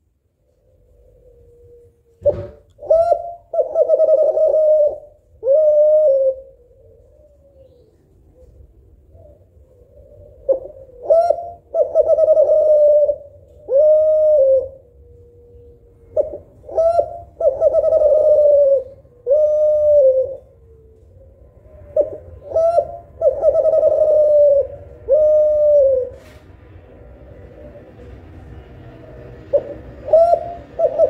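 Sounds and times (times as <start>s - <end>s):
dove cooing: 0.4s - 26.4s, 27.2s - 28.2s, 29.0s - 31.0s.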